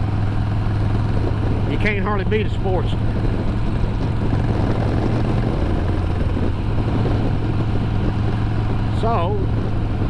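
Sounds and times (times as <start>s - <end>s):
motorcycle engine running: 0.0s - 10.0s
wind rushing: 0.7s - 10.0s.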